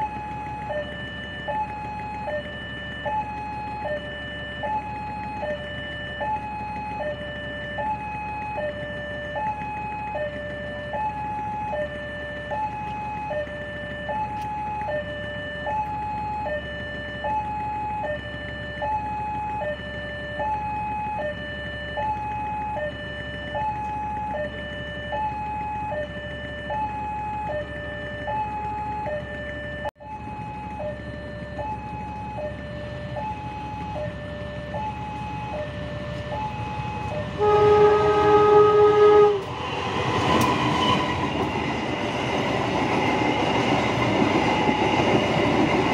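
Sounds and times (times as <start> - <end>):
level crossing two-tone alarm: 0.0 - 39.6, 40.2 - 45.9.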